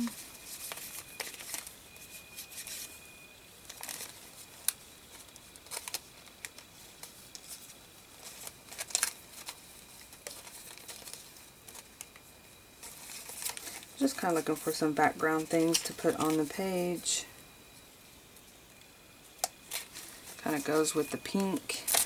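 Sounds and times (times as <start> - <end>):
paper rustling and crinkling: 0.0 - 3.0, 3.6 - 16.9, 19.6 - 22.0.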